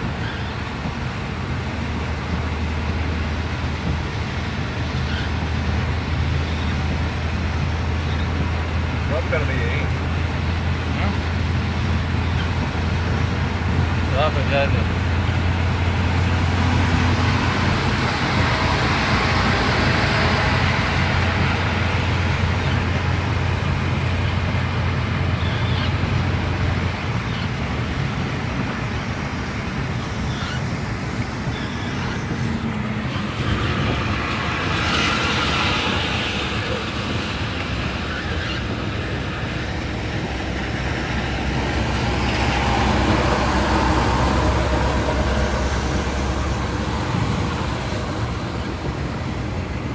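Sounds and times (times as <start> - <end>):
car driving on road: 0.0 - 49.9
low drone: 0.0 - 49.9.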